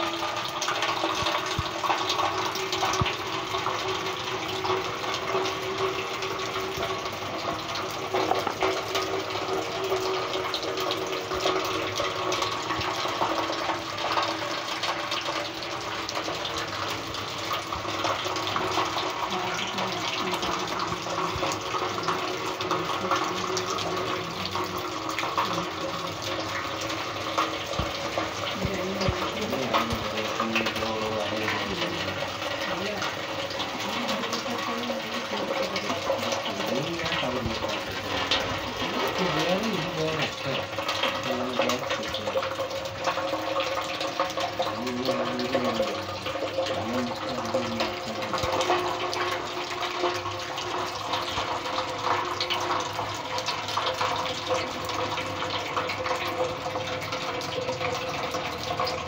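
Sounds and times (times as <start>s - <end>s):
rain on wet stone paving: 0.0s - 59.0s.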